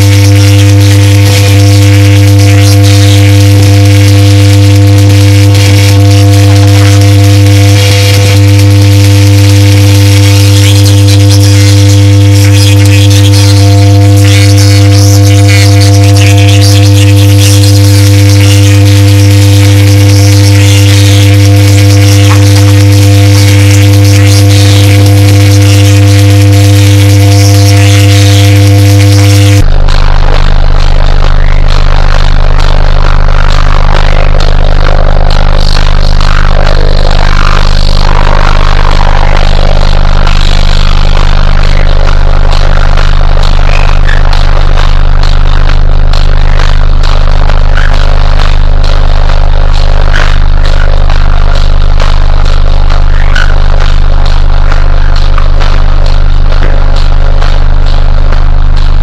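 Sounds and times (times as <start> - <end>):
faint dance music: 0.0 - 59.0
harsh noisy haze: 0.0 - 59.0
loud electrical buzz: 0.0 - 59.0.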